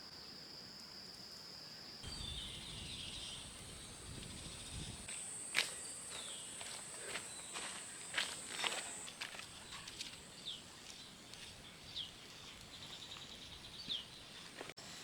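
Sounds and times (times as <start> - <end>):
insects trilling: 0.0 - 15.0
short insect chirps: 0.1 - 14.2.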